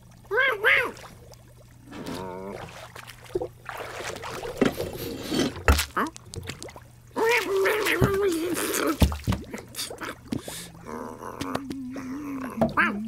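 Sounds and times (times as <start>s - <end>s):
water splashing in tank: 0.0s - 10.8s
wavering gurgling sound: 0.0s - 13.0s.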